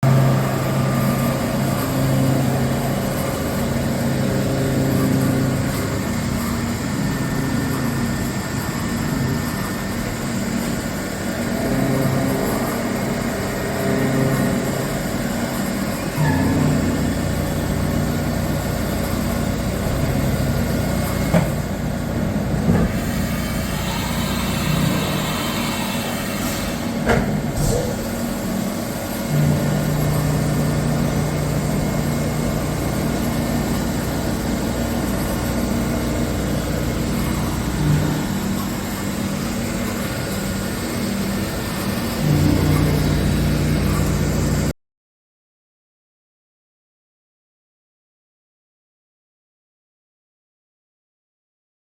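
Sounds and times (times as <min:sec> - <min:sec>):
milling machine humming: 0:00.0 - 0:44.7.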